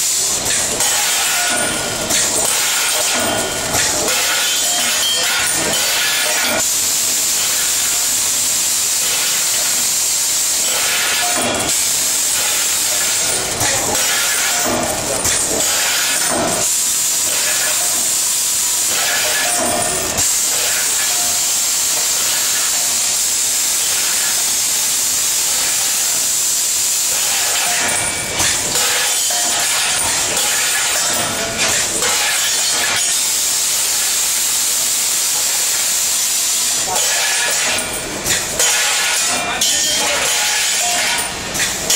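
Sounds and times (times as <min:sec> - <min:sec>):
mechanism knocks and clacks: 0:00.0 - 0:41.9
packing machine hissing: 0:00.0 - 0:41.9.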